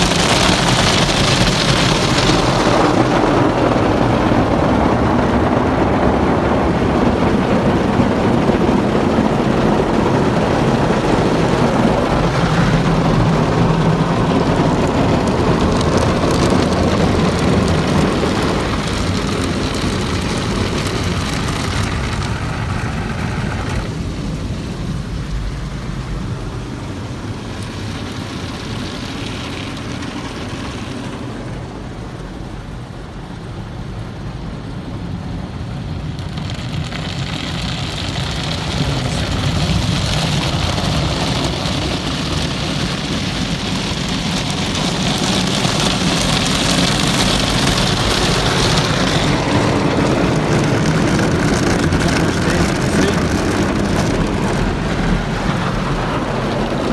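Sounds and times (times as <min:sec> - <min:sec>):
car wash water spraying: 0:00.0 - 0:56.9.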